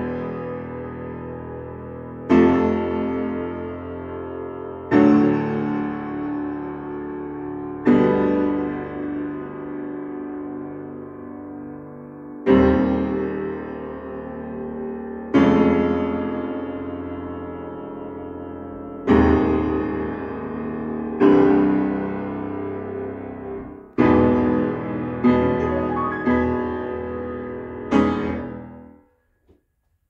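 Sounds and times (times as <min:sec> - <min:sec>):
grand piano chords: 0:00.0 - 0:29.1.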